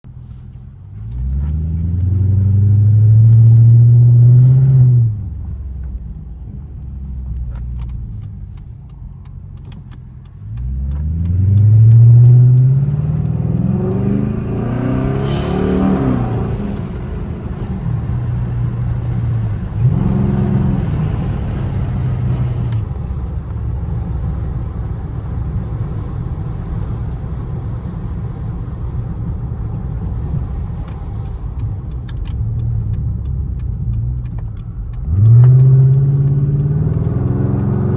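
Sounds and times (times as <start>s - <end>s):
car exhaust accelerating: 0.1s - 37.9s.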